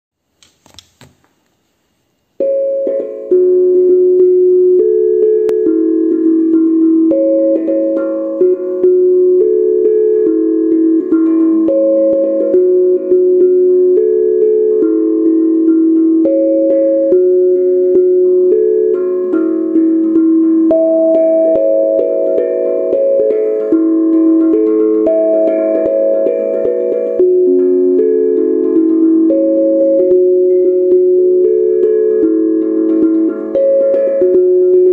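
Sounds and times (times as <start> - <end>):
steel tongue drum melody: 2.4 - 34.9.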